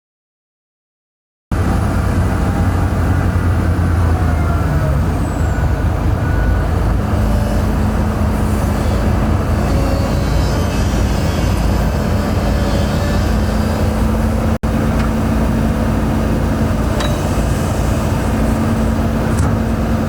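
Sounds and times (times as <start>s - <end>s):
heavy diesel engine droning: 1.5s - 20.0s.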